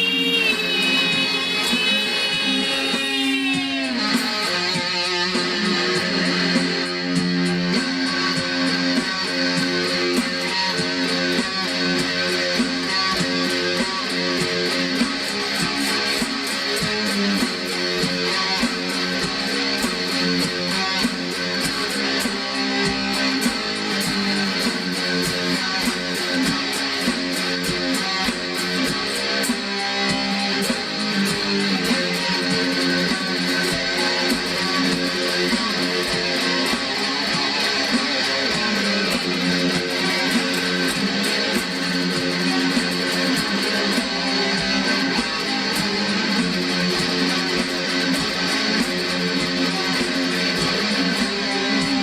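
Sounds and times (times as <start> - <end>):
guitar strumming chords: 0.0 - 52.0.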